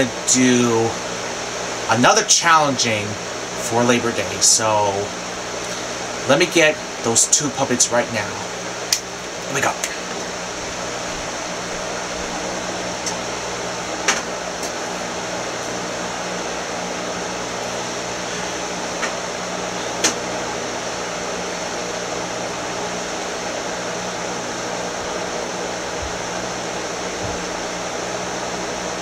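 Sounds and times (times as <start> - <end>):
fan hum and hiss: 0.0 - 29.0.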